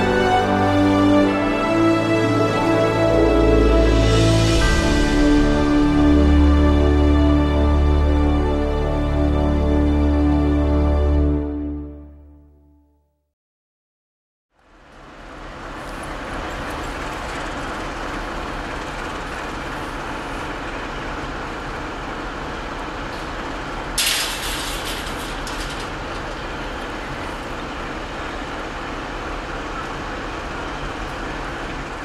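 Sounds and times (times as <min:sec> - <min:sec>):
locomotive diesel engine running: 0:00.0 - 0:10.7, 0:14.6 - 0:32.0.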